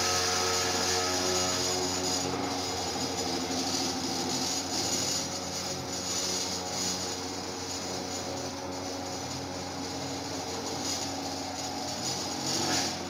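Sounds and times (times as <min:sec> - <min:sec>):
router spindle cutting: 0:00.0 - 0:13.0.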